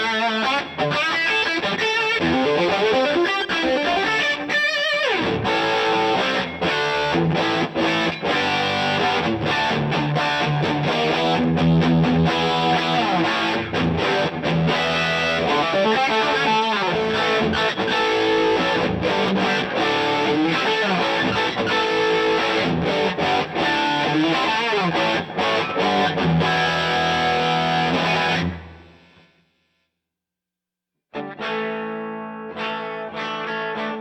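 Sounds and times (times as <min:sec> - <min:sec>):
distorted electric guitar: 0:00.0 - 0:29.4, 0:31.2 - 0:34.0.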